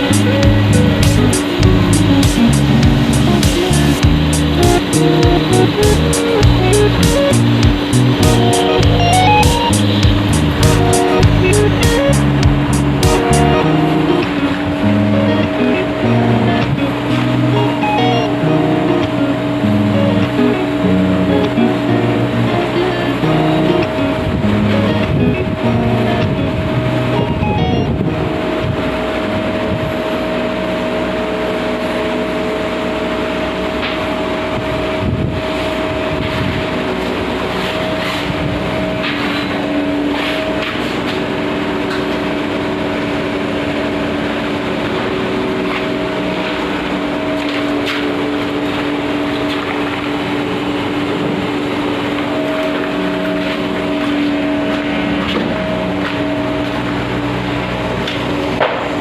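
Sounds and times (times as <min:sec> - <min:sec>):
lathe machine humming: 0:00.0 - 0:59.0.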